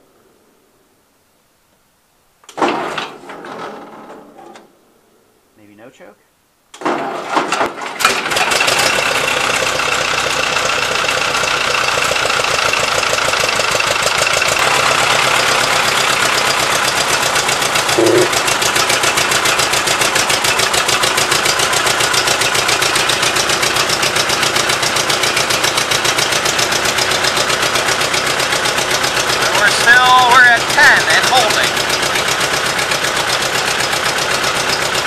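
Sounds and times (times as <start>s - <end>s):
tractor engine running: 6.7s - 35.0s.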